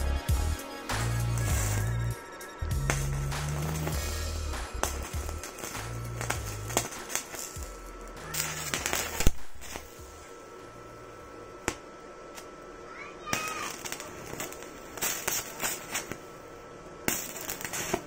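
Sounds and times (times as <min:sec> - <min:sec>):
welding arc crackling and spitting: 0:00.0 - 0:10.3, 0:11.6 - 0:16.4, 0:17.0 - 0:18.0.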